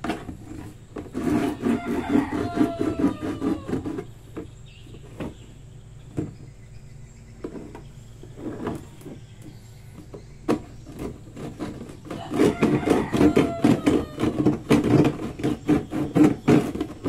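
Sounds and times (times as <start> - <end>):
hand saw on plastic can: 0.0 - 5.5, 7.4 - 17.0.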